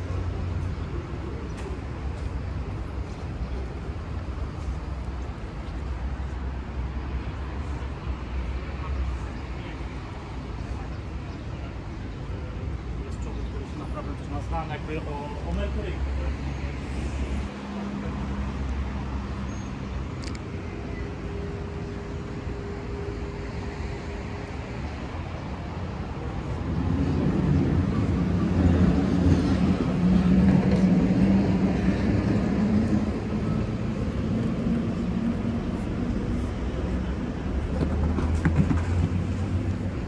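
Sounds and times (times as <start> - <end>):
cars passing on road: 0.0 - 40.0.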